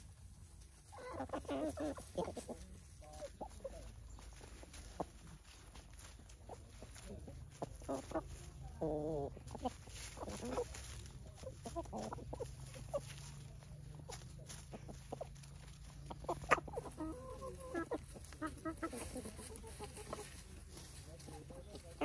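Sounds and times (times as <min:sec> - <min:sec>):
chickens clucking: 0:00.0 - 0:22.0
scratching in dry leaves: 0:00.0 - 0:22.0.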